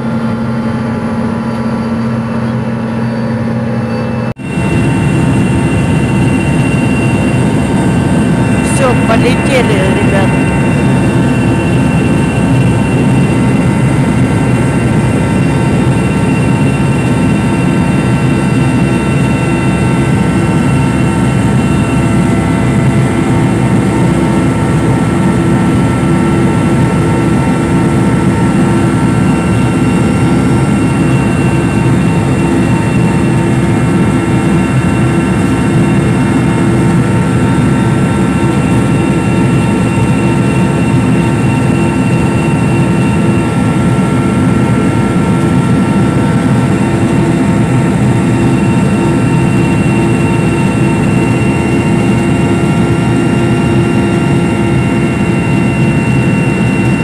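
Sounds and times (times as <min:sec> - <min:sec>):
helicopter engine and rotor drone: 0:00.0 - 0:57.0
high whine: 0:00.0 - 0:57.0.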